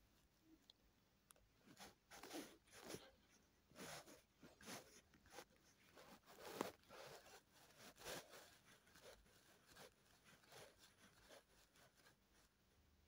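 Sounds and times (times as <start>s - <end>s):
soft rustles: 1.4s - 12.8s.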